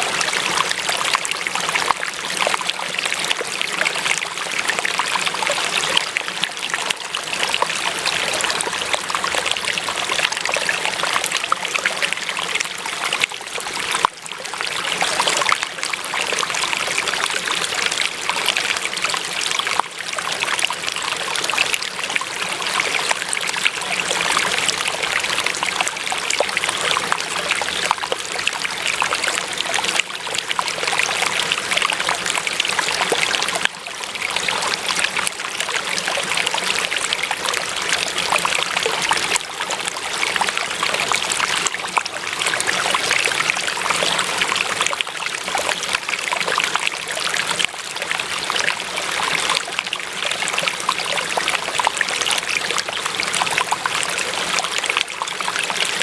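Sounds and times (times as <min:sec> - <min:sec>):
stream trickling and gurgling: 0:00.0 - 0:56.0.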